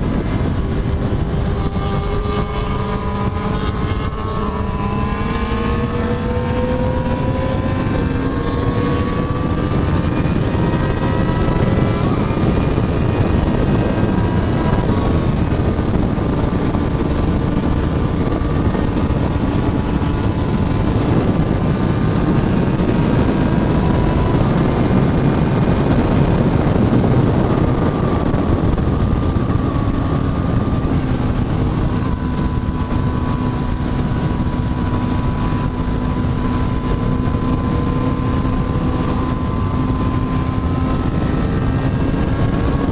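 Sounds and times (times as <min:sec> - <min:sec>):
motorcycle engine accelerating: 0:00.0 - 0:42.9
wind rush on microphone: 0:00.0 - 0:42.9.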